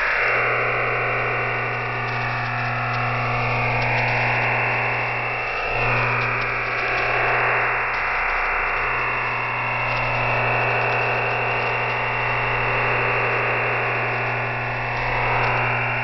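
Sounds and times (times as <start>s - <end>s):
dense rushing radio hiss: 0.0s - 16.0s.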